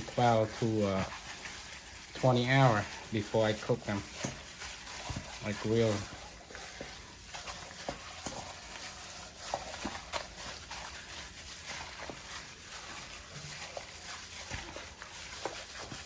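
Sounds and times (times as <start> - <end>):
hands kneading wet meat: 0.0 - 16.0.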